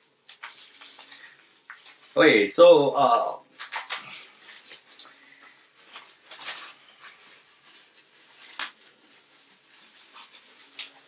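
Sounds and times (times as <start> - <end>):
packaging rustling: 0.0 - 2.2, 3.4 - 11.0.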